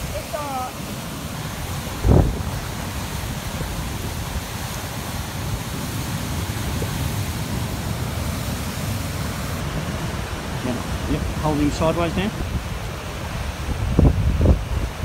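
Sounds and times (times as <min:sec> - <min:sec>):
river water rushing over rocks: 0:00.0 - 0:15.0
wind buffeting microphone: 0:00.0 - 0:15.0.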